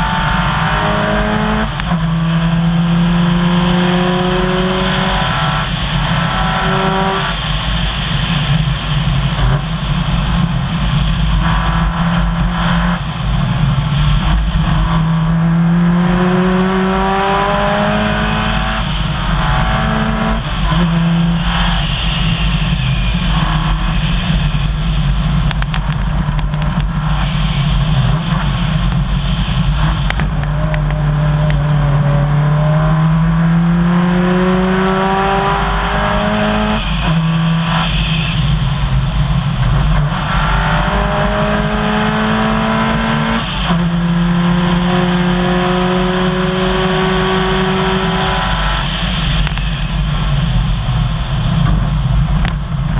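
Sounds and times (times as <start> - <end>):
rally car engine revving through gears: 0.0 - 24.4, 25.0 - 52.9.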